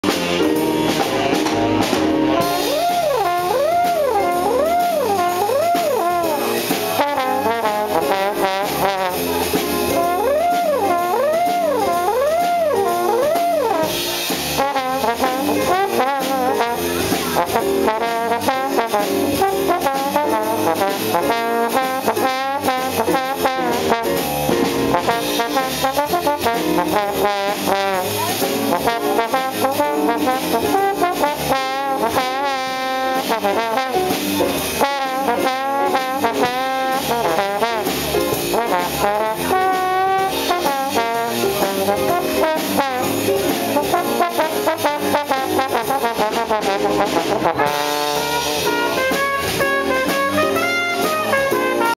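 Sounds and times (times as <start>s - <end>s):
jazz band playing: 0.0s - 51.9s
trombone solo: 0.0s - 51.9s.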